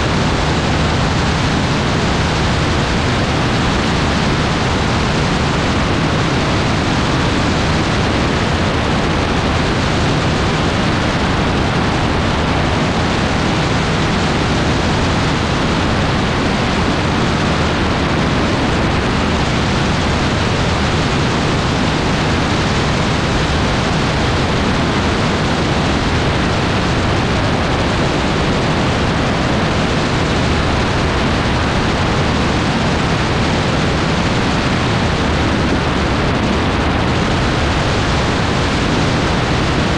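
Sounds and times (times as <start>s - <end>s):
aircraft engine drone: 0.0s - 39.9s
wind rushing over microphone: 0.0s - 39.9s.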